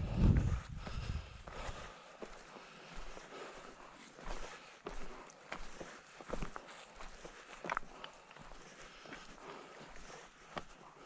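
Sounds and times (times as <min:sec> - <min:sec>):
footsteps on rough ground: 0:00.0 - 0:11.0.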